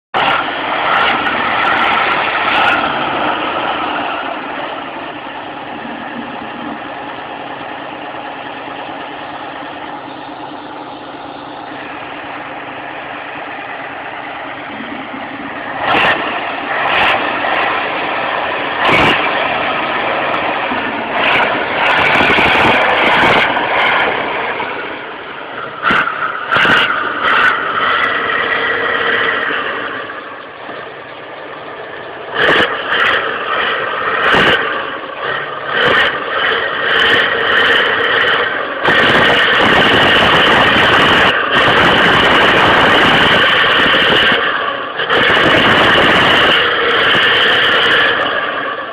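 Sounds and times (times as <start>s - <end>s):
truck engine running: 0.1s - 48.9s.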